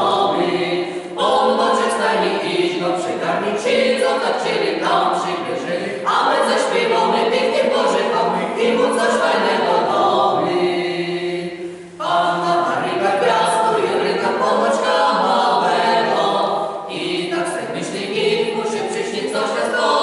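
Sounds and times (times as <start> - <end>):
choir singing a cappella: 0.0 - 20.0.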